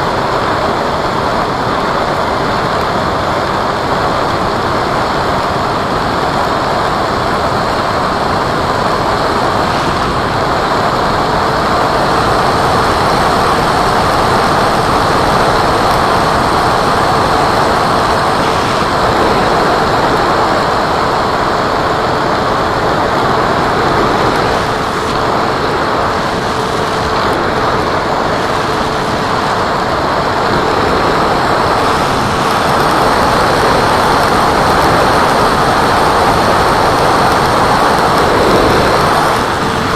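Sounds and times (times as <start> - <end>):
air and propeller rushing: 0.0 - 39.9.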